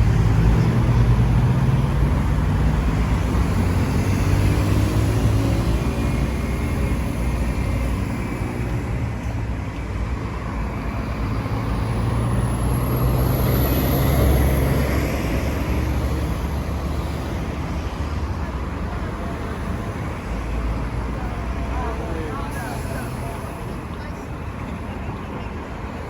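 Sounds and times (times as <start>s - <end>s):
vehicle engines passing: 0.0s - 26.0s.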